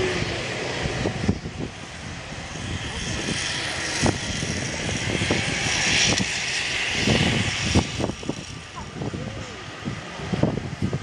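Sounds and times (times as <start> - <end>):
watercraft engine droning at high revs: 0.0 - 11.0.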